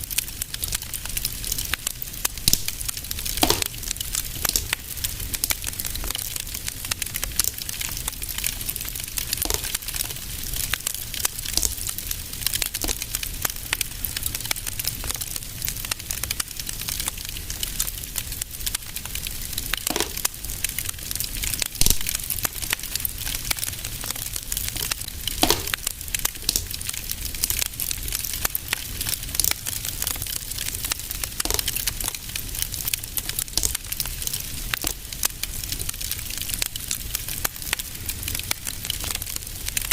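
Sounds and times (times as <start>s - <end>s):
fireplace fire crackling: 0.0s - 39.9s
low rumble of fire: 0.0s - 39.9s
loud pops of fire: 0.1s - 39.3s.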